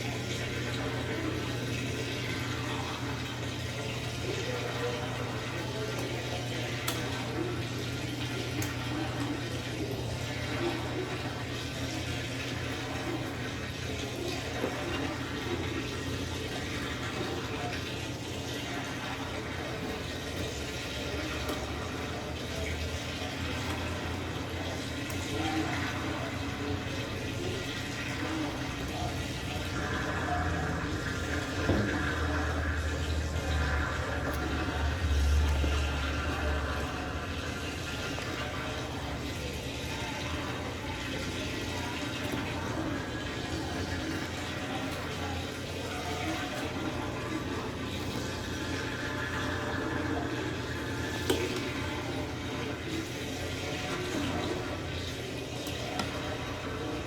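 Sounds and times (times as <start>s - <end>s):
water rushing in washing machine: 0.0s - 57.0s.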